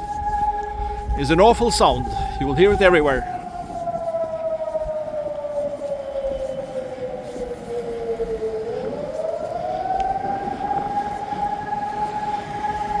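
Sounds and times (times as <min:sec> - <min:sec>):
air raid siren: 0:00.0 - 0:13.0.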